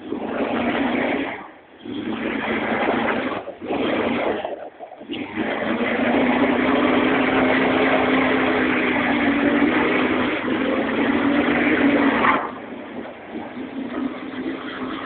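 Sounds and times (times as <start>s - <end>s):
buggy engine running hard: 0.0s - 15.0s.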